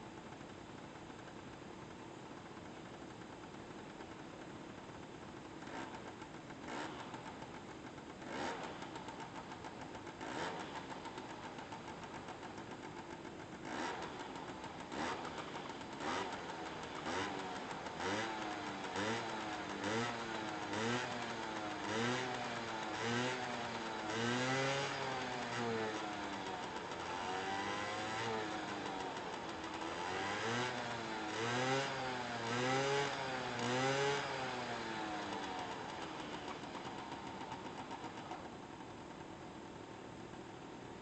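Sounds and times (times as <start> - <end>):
two-stroke scooter engine revving: 5.2 - 40.6.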